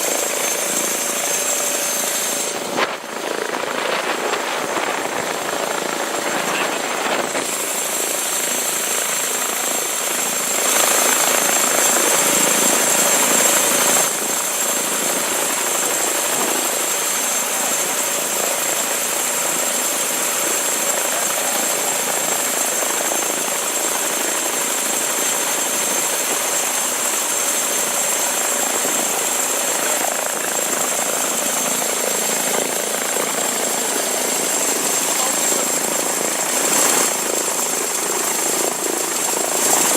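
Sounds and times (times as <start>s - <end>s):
helicopter engine and rotor: 0.0s - 39.9s
high turbine whine: 0.0s - 39.9s.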